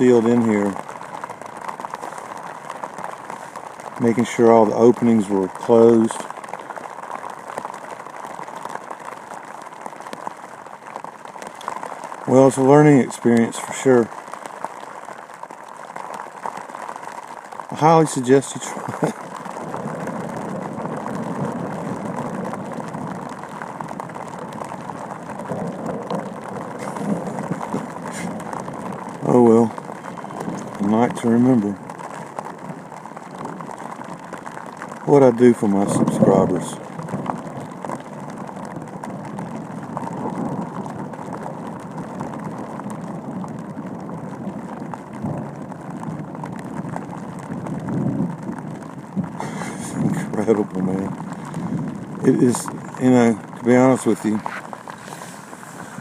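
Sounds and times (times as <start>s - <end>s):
heavy rain on fabric cover: 0.0s - 56.0s.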